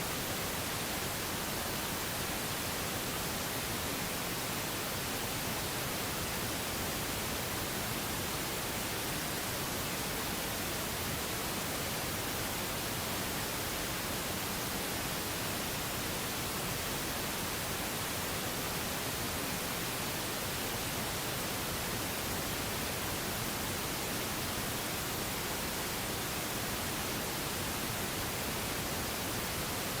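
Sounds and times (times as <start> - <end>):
pink noise hiss: 0.0 - 30.0.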